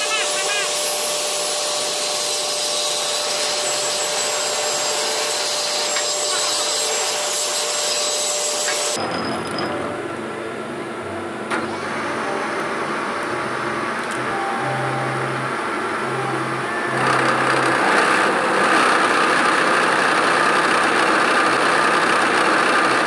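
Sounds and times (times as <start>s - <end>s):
milling machine cutting steel: 0.0s - 10.7s, 11.4s - 23.0s
hissy machine whine: 0.0s - 23.0s.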